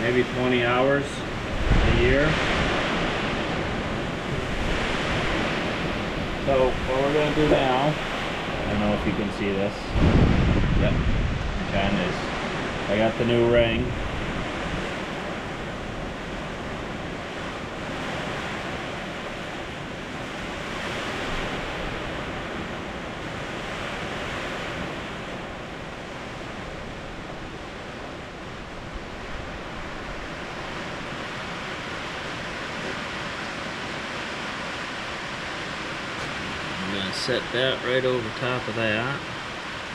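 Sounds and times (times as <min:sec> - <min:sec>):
steady rain: 0:00.0 - 0:39.9
wind: 0:00.0 - 0:39.9.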